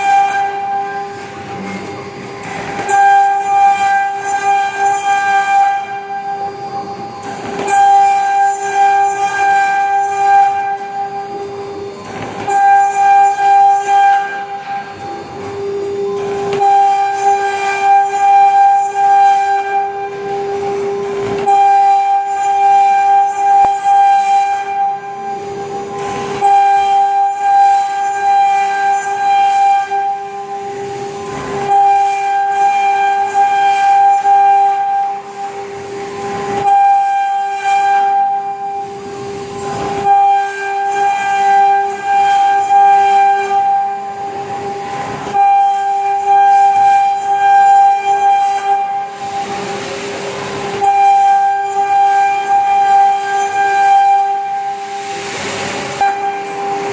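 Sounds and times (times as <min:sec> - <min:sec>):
router spindle whining: 0:00.0 - 0:56.9.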